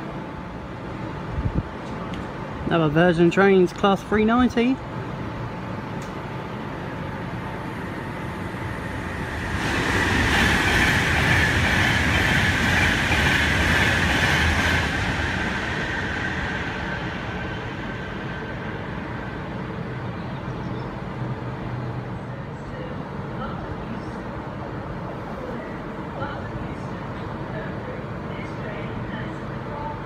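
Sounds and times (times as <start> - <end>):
electric train passing at speed: 0.0 - 30.0.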